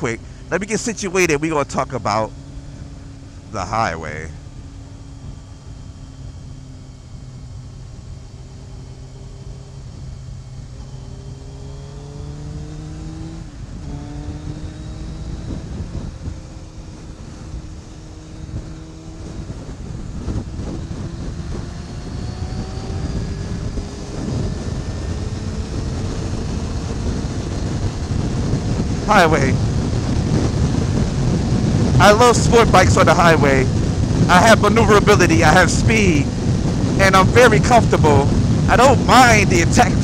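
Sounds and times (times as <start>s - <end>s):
motorcycle engine accelerating: 0.0s - 40.0s
wind noise: 0.0s - 40.0s.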